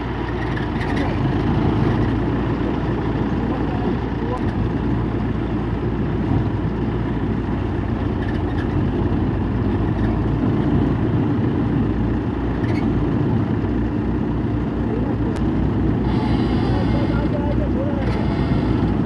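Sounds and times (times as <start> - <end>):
diesel machinery rumbling: 0.0 - 19.0.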